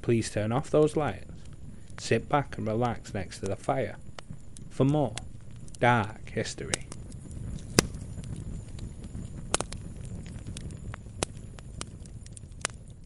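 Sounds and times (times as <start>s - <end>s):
fire crackling and popping: 0.0s - 13.0s
low steady rumble: 0.0s - 13.0s.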